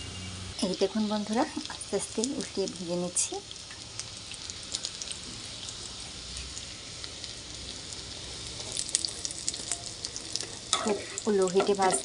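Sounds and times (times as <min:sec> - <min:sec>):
cutlets sizzling in hot oil: 0:00.0 - 0:12.0.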